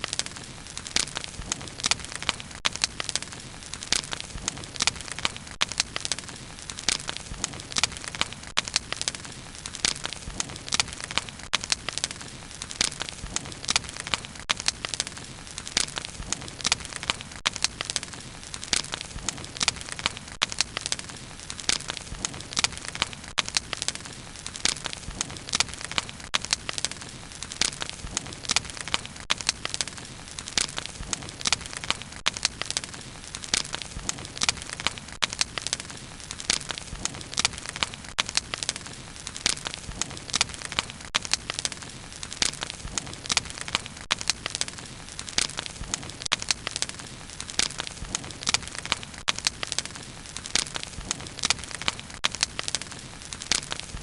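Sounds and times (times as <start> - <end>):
burning wood crackling and popping: 0.0 - 54.0.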